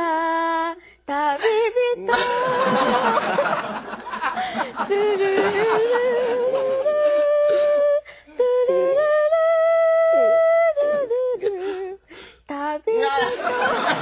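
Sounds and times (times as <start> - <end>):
person humming melody: 0.0 - 3.1, 4.6 - 14.0.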